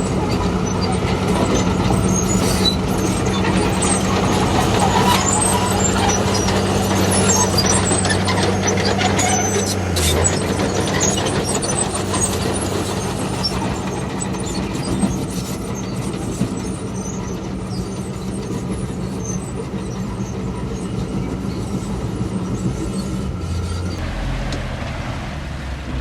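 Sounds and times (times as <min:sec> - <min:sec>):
steel tracks rattling and clanking: 0:00.0 - 0:24.0
bulldozer diesel engine running: 0:00.0 - 0:26.0.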